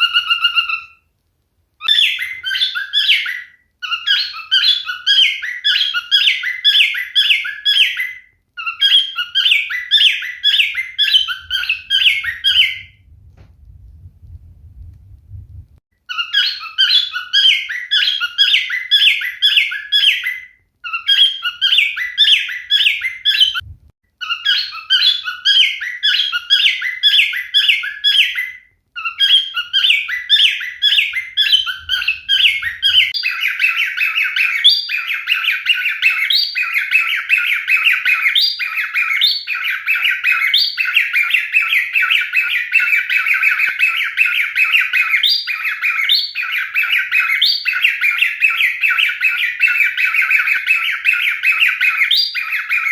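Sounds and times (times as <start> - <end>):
cockatiel whistling song: 0.0 - 1.1, 1.8 - 13.1, 16.0 - 52.9.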